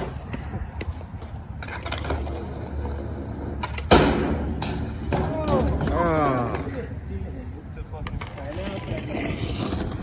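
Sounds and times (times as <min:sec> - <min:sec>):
skateboard wheels rolling: 0:00.0 - 0:10.0.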